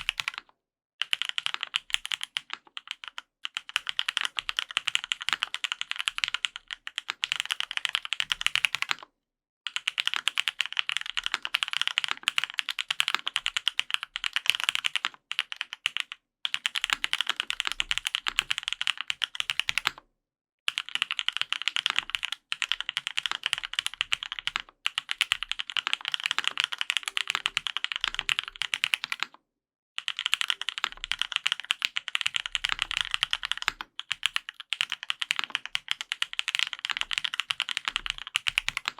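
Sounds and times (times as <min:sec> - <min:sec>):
mechanical keyboard typing: 0:00.0 - 0:09.0, 0:09.7 - 0:20.0, 0:20.7 - 0:29.3, 0:30.0 - 0:38.9.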